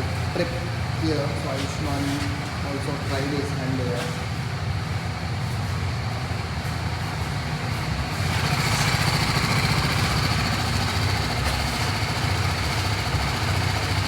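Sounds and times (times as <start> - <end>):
motorcycle engine idling: 2.4 - 14.0.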